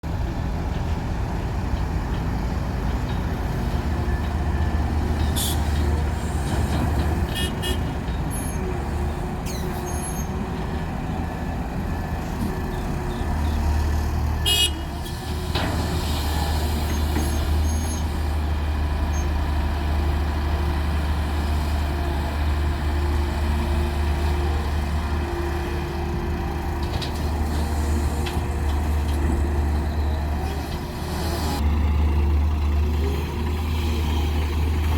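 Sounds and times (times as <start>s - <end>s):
diesel machinery engine running: 0.0s - 34.9s.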